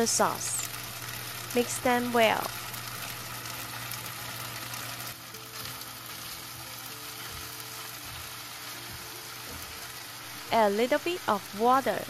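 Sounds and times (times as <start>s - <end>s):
beef sizzling in a frying pan: 0.0s - 12.0s.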